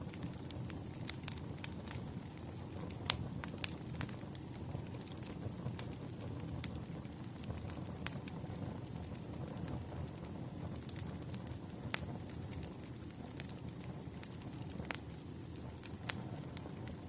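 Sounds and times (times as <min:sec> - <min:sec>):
fire crackles and pops: 0:00.0 - 0:17.0
low rumble of flames: 0:00.0 - 0:17.0.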